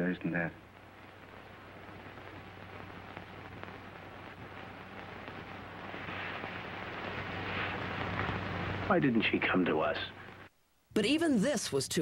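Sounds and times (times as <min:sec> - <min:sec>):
film soundtrack hiss and crackle: 0:00.0 - 0:12.0.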